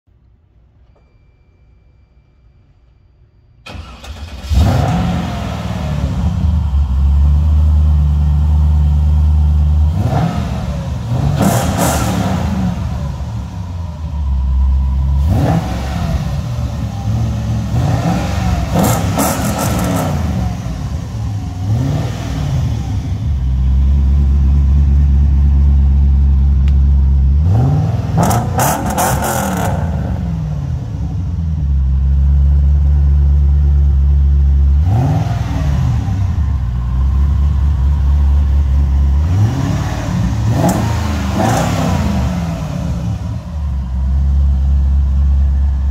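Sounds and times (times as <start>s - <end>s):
car engine starting: 3.6s - 45.9s
car engine idling and revving: 3.7s - 45.9s.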